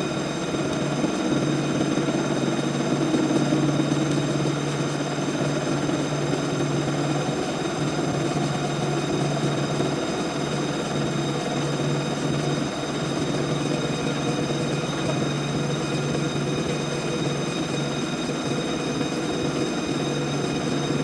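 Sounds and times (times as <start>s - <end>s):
high-pitched whine tones: 0.0s - 21.0s
milling machine spindle hum: 0.0s - 21.0s.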